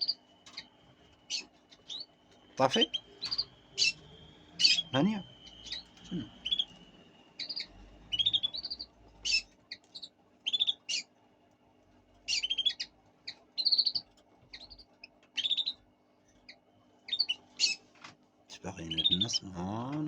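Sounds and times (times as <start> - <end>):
lovebirds chirping: 0.0 - 11.2, 12.2 - 17.9, 18.6 - 20.0.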